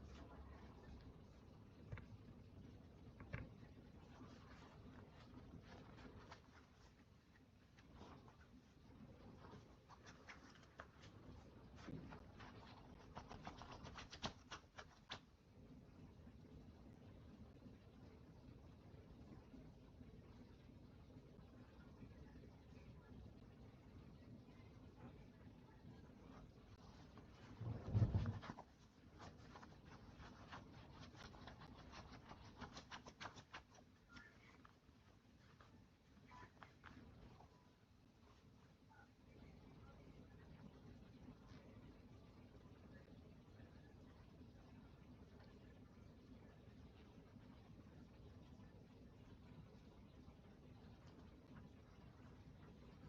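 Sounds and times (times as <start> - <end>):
faint clicking and tapping: 0.0 - 53.0.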